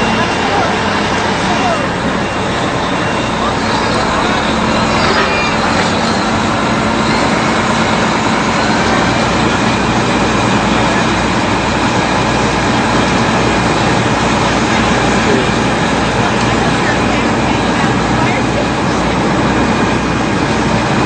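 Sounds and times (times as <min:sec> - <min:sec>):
fire truck engine humming: 0:00.0 - 0:21.0.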